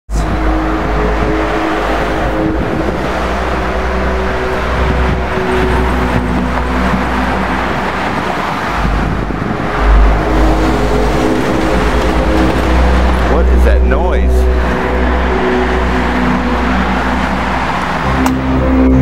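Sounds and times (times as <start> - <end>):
droning tones shifting pitch: 0.1 - 19.0
loud low rumble: 0.1 - 19.0.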